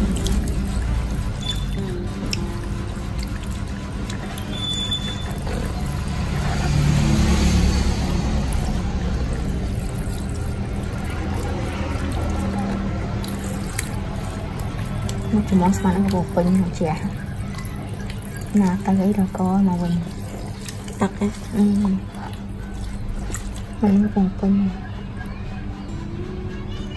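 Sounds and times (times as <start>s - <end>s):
shower sprayer water splashing: 0.0s - 24.2s
background music: 0.0s - 26.9s.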